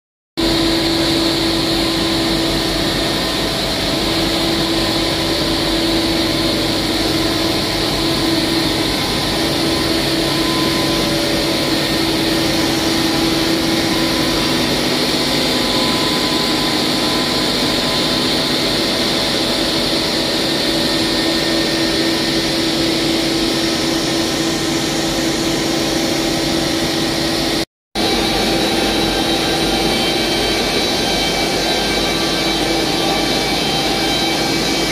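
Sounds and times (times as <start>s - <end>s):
industrial machinery hum: 0.4s - 34.9s.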